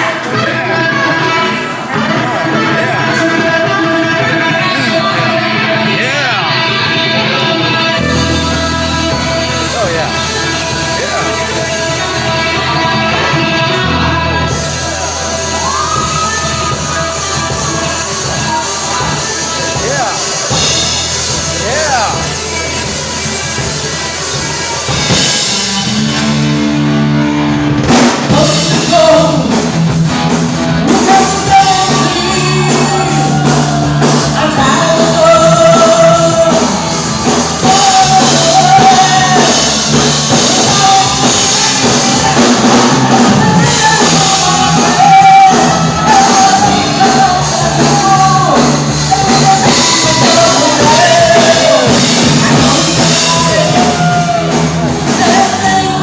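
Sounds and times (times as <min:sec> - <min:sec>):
rock band playing: 0:00.0 - 0:56.0
drum kit and cymbals: 0:08.0 - 0:56.0.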